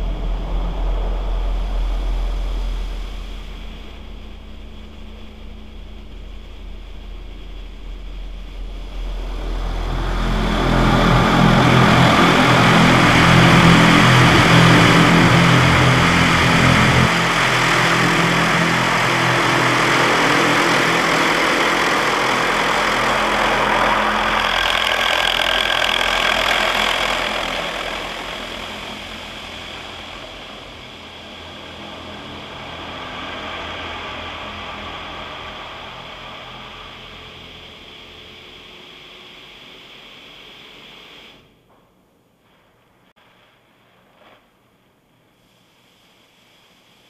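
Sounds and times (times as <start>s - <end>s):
machine hum: 0.0s - 41.7s.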